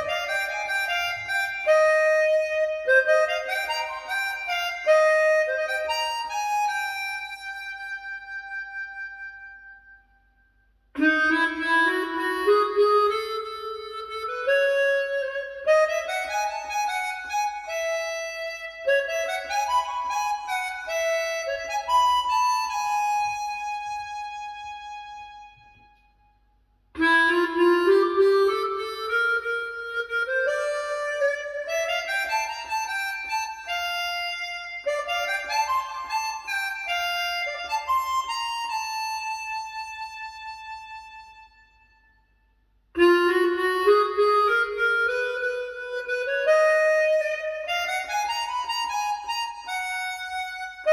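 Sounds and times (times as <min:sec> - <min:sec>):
harmonica melody: 0:00.0 - 0:26.3, 0:27.0 - 0:50.9.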